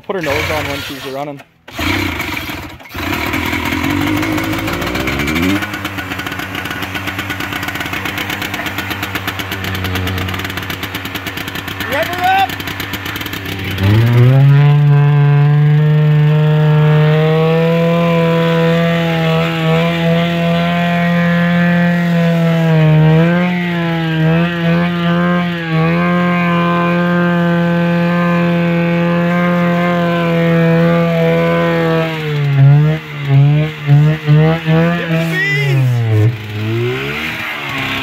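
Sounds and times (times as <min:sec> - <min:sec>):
snowmobile engine at high revs: 0:00.0 - 0:38.0.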